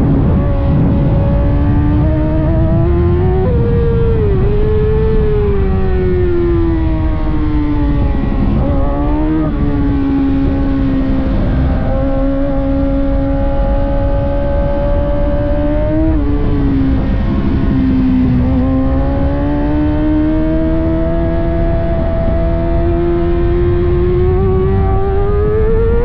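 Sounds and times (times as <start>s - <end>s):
motorbike engine revving high: 0.0s - 26.0s.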